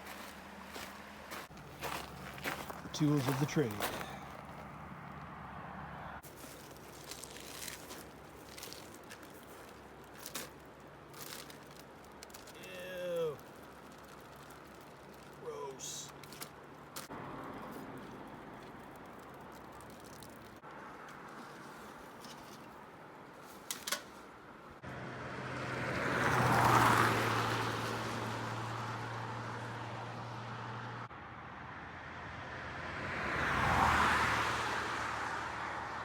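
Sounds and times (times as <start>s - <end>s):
vehicles passing on highway: 0.0s - 36.0s.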